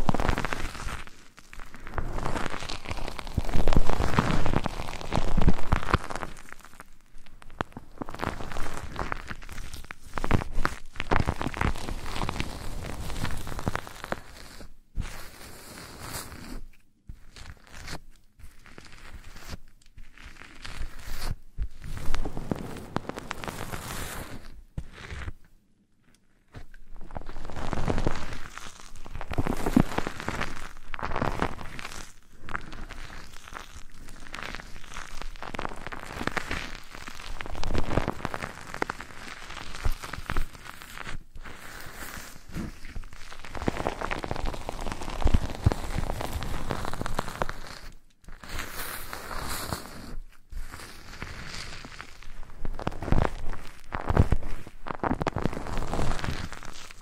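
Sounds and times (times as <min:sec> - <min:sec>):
scratching against microphone: 0:00.0 - 0:57.0.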